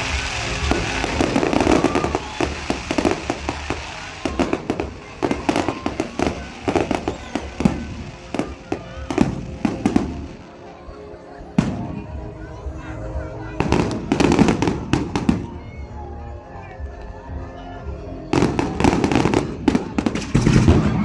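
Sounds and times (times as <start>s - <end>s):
fireworks bangs and crackles: 0.0s - 16.0s, 18.3s - 21.0s.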